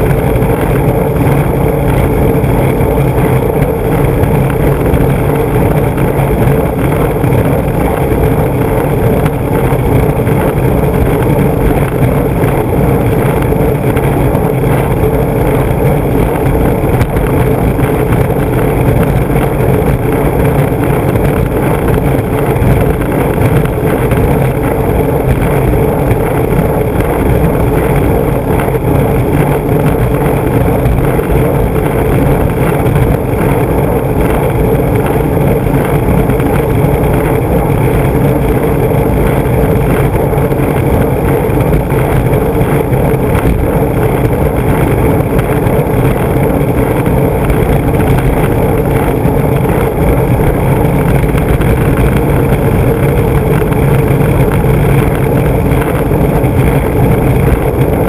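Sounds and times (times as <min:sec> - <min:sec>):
skateboard truck vibration: 0:00.0 - 0:58.0
skateboard wheels rolling on asphalt: 0:00.0 - 0:58.0.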